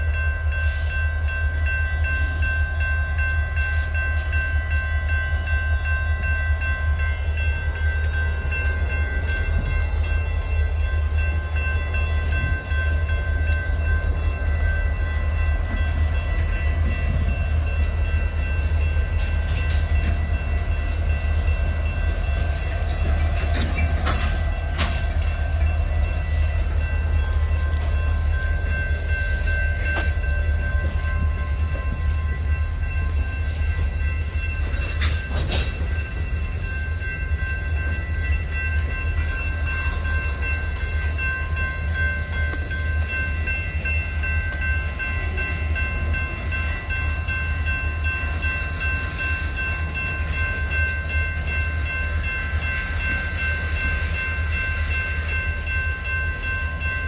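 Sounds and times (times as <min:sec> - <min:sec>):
train rumbling by: 0:00.0 - 0:57.0.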